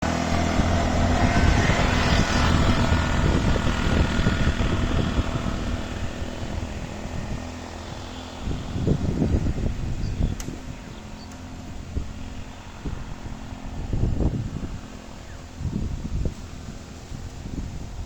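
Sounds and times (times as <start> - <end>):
vehicle engine running: 0.0 - 18.0
wind and road noise: 0.0 - 18.0.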